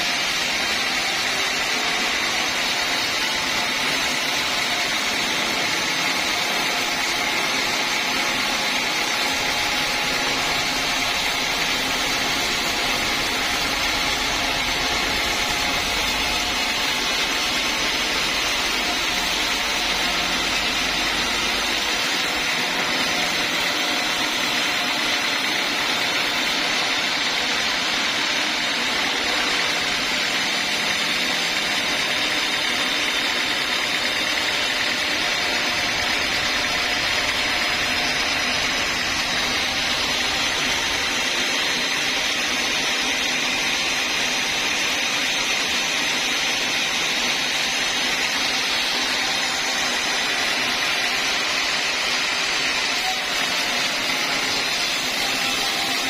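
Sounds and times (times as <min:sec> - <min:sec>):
sawmill saw running: 0:00.0 - 0:56.0.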